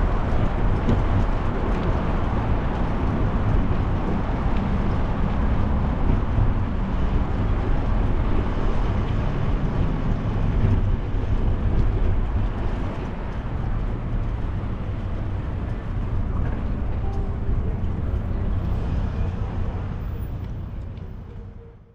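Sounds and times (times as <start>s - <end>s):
wind on microphone: 0.0s - 20.8s
bicycle riding rumble: 0.0s - 21.9s.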